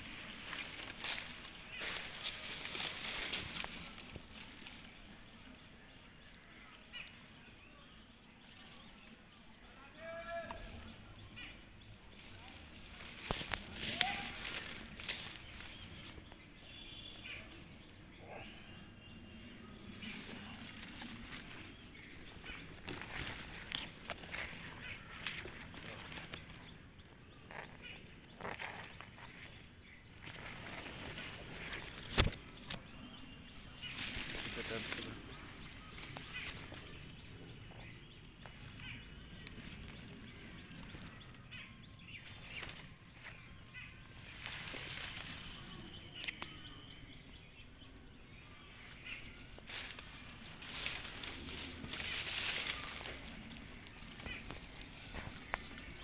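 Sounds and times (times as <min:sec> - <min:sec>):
leaves rustling: 0:00.0 - 0:09.2, 0:10.0 - 0:18.6, 0:19.2 - 0:46.5, 0:48.4 - 0:56.0
faint bird chirps: 0:00.0 - 0:56.0.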